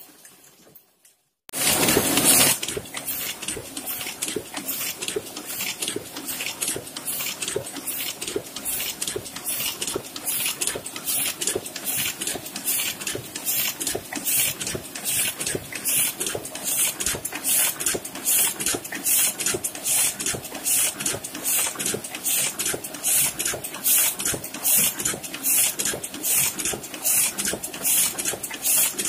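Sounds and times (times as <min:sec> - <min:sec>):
printing press rhythmic clatter: 0:01.5 - 0:29.0.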